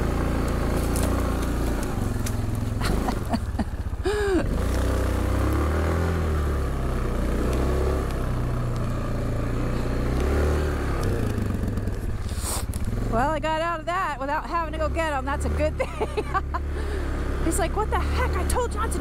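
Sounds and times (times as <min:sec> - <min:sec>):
atv engine revving under load: 0:00.0 - 0:19.0.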